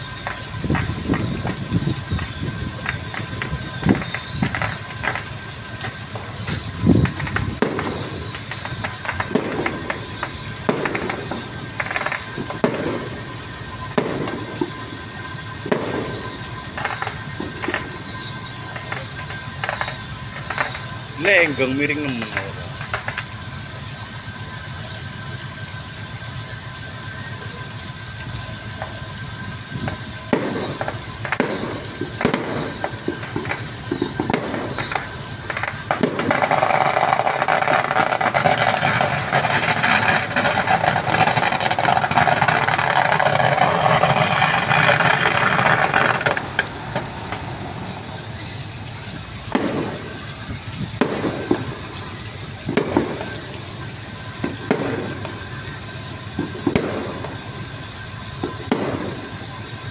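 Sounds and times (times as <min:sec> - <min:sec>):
steady rush of water: 0:00.0 - 0:59.9
water splashing and sloshing: 0:00.0 - 0:59.9.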